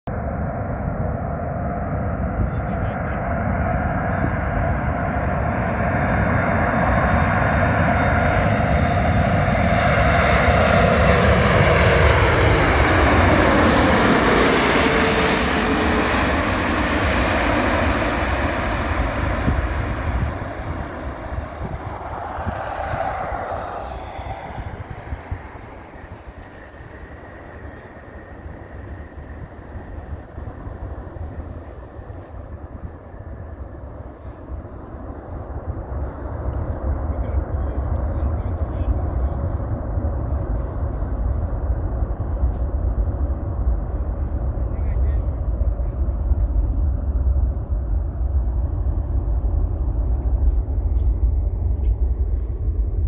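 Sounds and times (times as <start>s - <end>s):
jet airliner engines passing: 0.1s - 53.0s.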